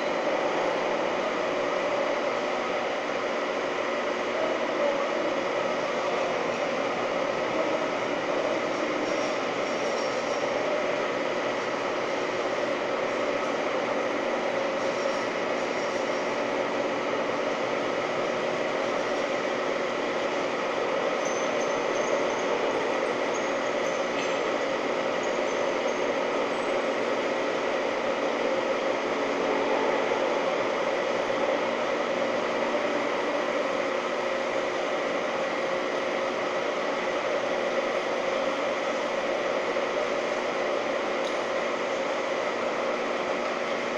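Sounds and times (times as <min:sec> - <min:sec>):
metal lathe humming and whining: 0:00.0 - 0:43.9.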